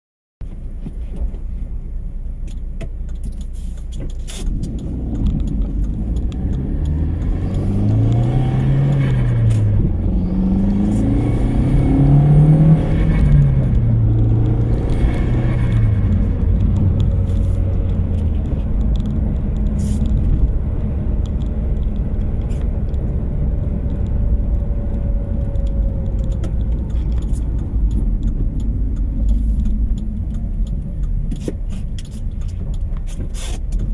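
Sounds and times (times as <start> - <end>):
car engine idling and revving: 0.4 - 33.9.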